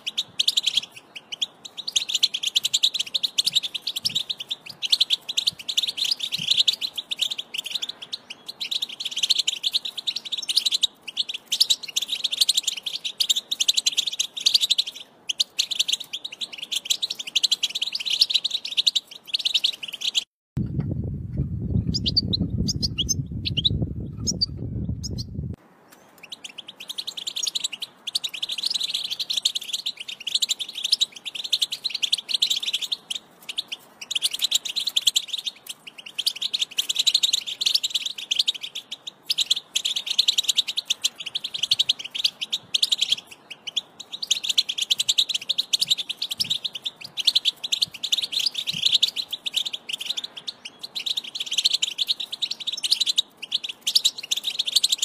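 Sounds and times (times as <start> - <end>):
goldfinch twittering song: 0.0 - 20.3, 21.7 - 55.0.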